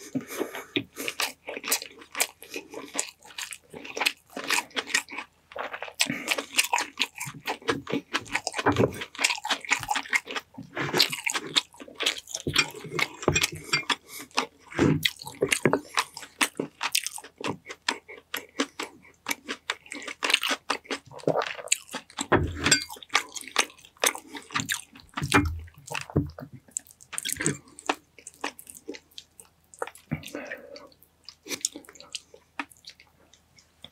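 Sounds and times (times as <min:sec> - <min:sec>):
wet chewing smacks and clicks: 0:00.8 - 0:33.9.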